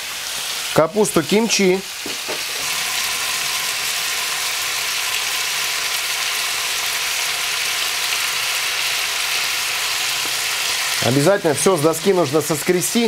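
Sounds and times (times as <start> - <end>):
meat and onions sizzling in a pan: 0.0 - 13.0.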